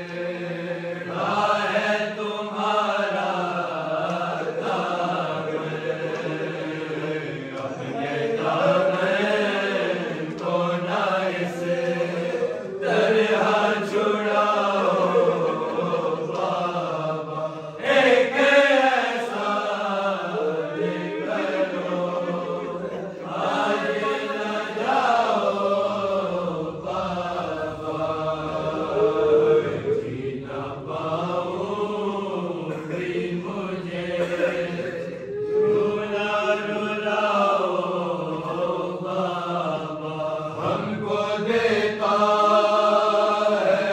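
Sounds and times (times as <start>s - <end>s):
men chanting a mourning lament: 0.0s - 43.9s.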